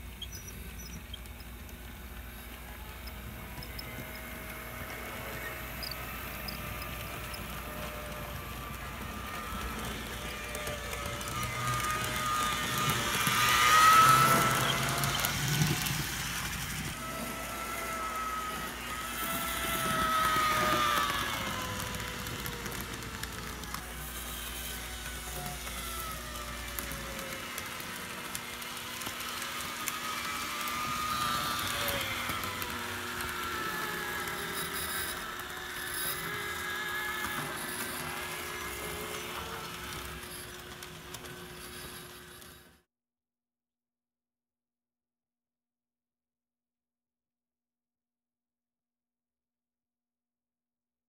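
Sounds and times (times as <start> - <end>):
wheels clicking on track: 0.0 - 42.8
model train motor whine: 0.0 - 42.9.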